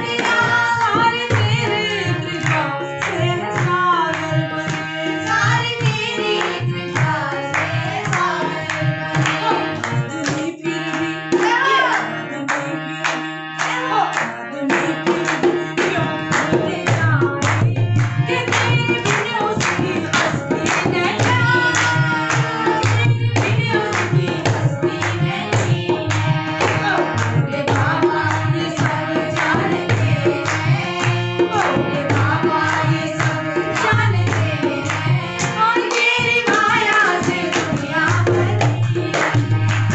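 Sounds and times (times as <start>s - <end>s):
harmonium: 0.0s - 39.9s
woman singing devotional song: 0.0s - 39.9s
hand clapping: 2.4s - 39.9s.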